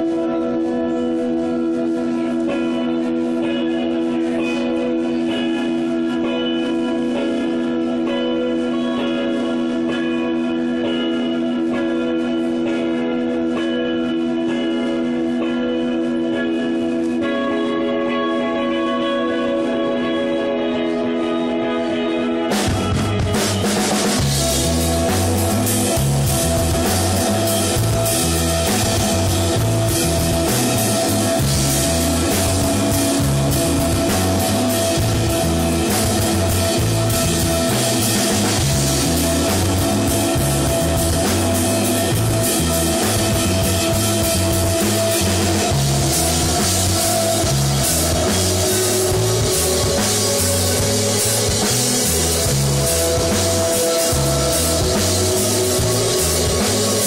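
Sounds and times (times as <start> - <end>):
bass guitar: 0.0 - 57.0
drum kit: 0.0 - 57.0
rock band playing live: 0.0 - 57.0
sustained electric guitar: 0.0 - 57.0.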